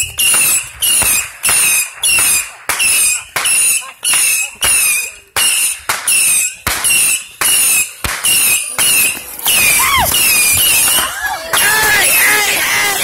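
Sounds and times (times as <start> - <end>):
firework whistling shots: 0.0 - 13.0.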